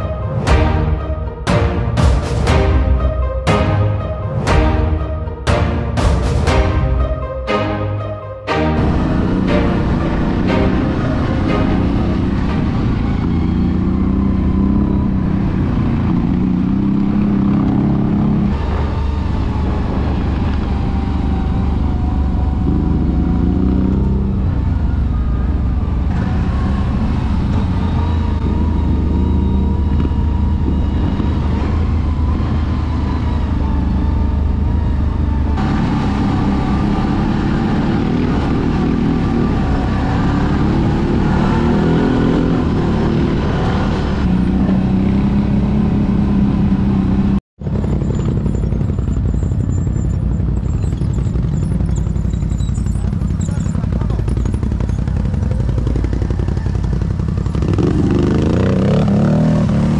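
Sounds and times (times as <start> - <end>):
atv engine revving: 8.8 - 59.9.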